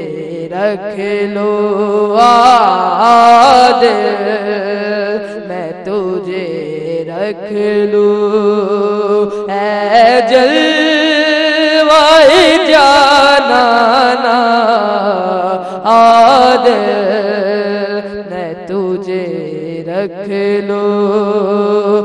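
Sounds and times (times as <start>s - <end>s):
boy singing into a microphone: 0.0s - 22.0s.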